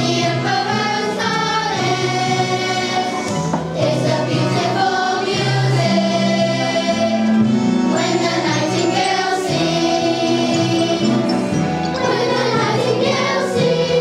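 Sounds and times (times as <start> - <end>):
children's choir singing: 0.0 - 14.0
musical accompaniment: 0.0 - 14.0.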